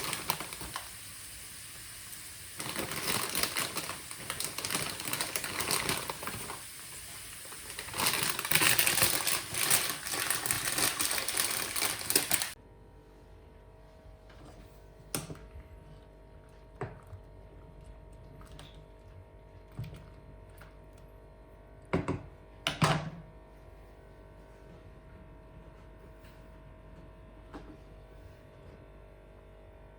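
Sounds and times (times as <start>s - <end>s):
steady kitchen hum: 0.0s - 29.9s.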